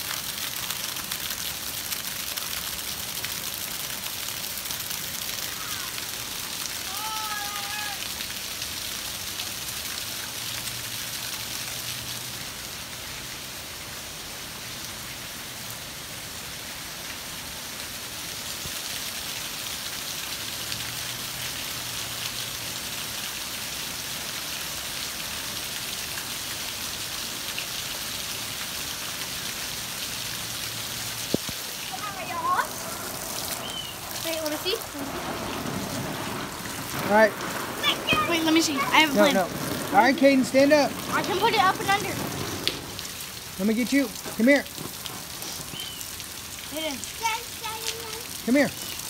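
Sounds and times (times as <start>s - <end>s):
heavy rain: 0.0s - 49.0s.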